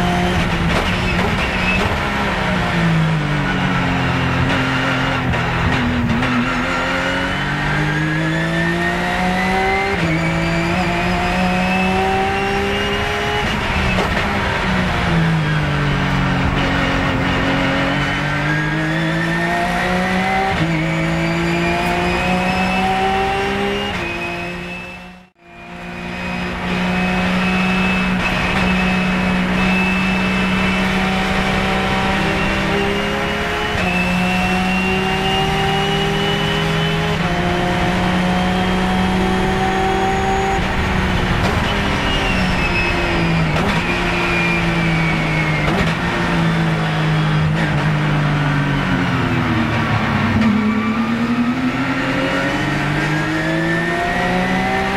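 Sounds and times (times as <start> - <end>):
race car engine revving: 0.0 - 54.9.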